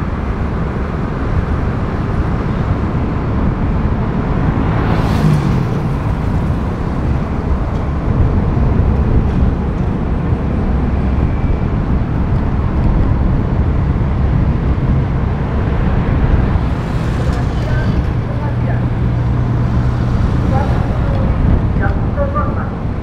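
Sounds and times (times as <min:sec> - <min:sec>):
tyres and engines rumbling: 0:00.0 - 0:23.0.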